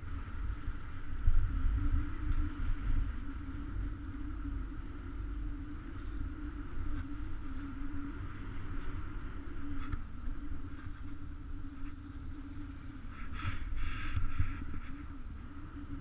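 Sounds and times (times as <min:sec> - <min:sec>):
steady even hum: 0:00.0 - 0:16.0
wind rumbling on microphone: 0:00.0 - 0:16.0.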